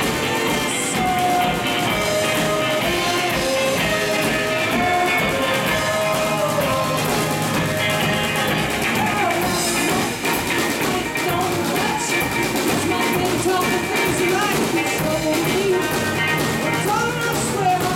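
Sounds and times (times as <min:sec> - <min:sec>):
drum kit: 0:00.0 - 0:17.9
electric guitar: 0:00.0 - 0:17.9.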